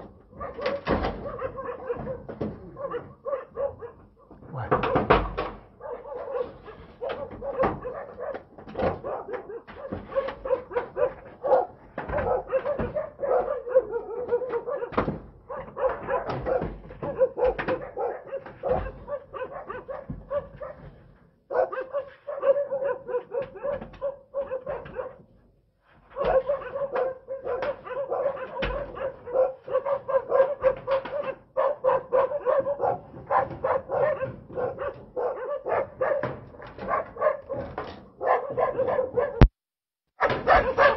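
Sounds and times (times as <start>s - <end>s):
dog barking rapidly: 0.2s - 20.9s, 21.5s - 25.2s, 26.1s - 39.5s, 40.2s - 40.9s.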